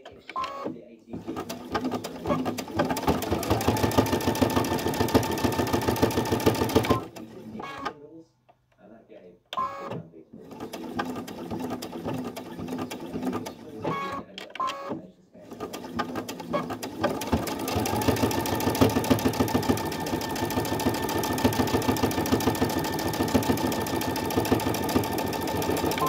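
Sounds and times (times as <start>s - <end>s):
sewing machine stitching: 0.0s - 8.0s, 9.6s - 26.0s.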